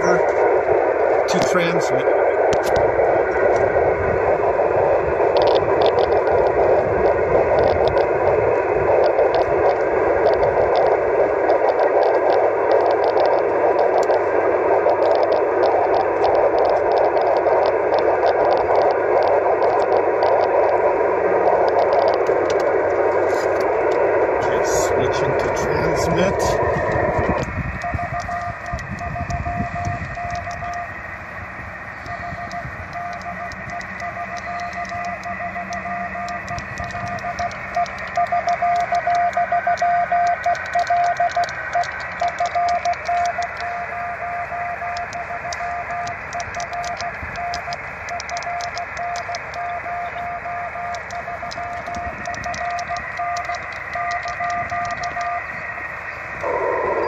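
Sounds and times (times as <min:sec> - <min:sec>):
radio receiver hiss: 0:00.0 - 0:57.0
morse code tone: 0:04.4 - 0:57.0.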